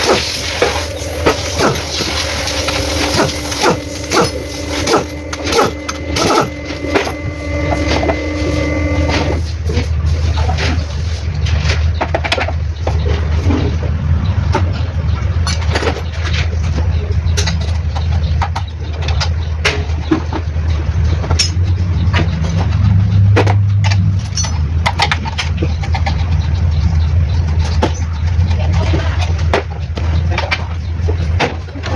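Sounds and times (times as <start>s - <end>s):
engine droning: 0.0s - 31.8s.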